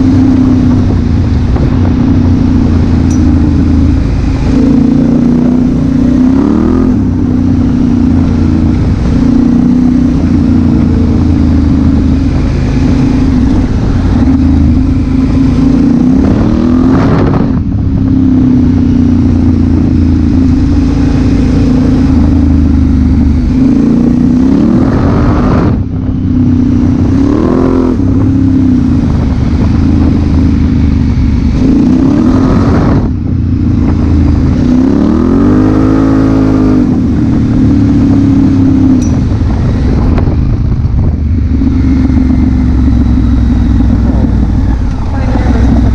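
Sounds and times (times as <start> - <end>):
motorcycle engine under throttle: 0.0 - 45.9.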